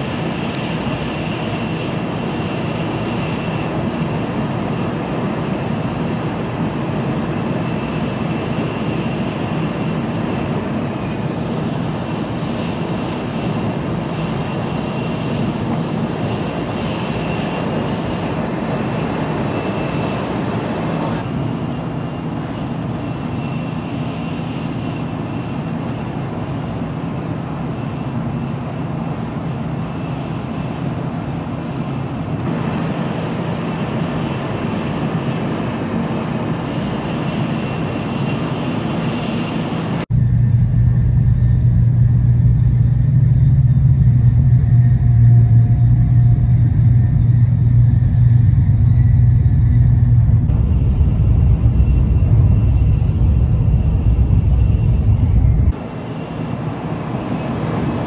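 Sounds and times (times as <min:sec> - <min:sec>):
deep train rumble: 0:00.0 - 0:58.0
faint high whine: 0:00.0 - 0:58.0
train cabin running noise: 0:00.0 - 0:58.0.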